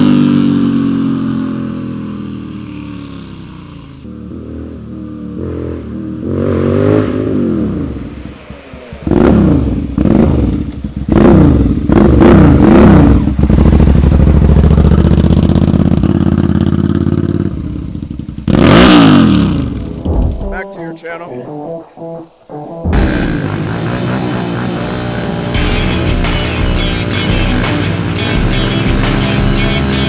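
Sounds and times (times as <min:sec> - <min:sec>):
motorcycle engine revving: 0:00.0 - 0:20.6, 0:22.6 - 0:30.0.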